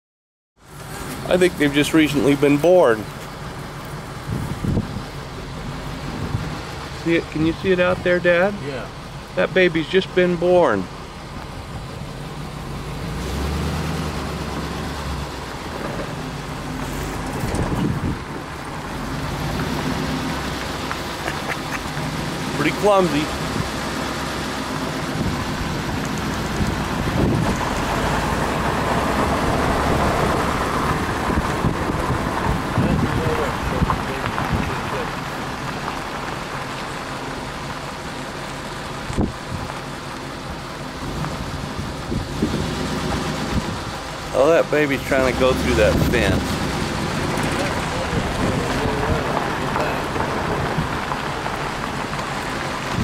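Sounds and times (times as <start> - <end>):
car engine running: 0.6 - 53.0
road and wind noise: 0.6 - 53.0
tyres rolling over gravel: 0.6 - 53.0.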